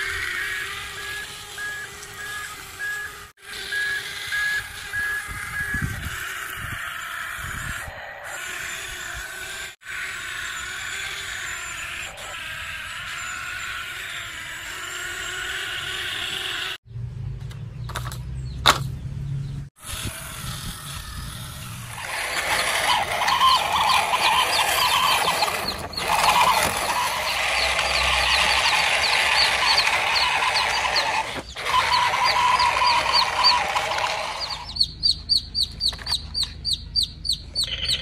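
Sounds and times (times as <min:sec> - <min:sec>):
small birds chirping: 0:00.0 - 0:16.8, 0:20.4 - 0:38.0.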